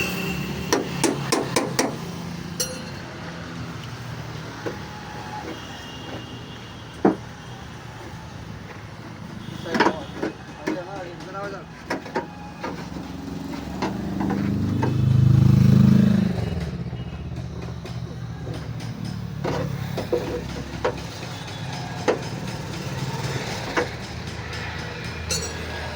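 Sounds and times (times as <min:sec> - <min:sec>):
vehicle engine humming: 0:00.0 - 0:06.3, 0:10.4 - 0:25.9.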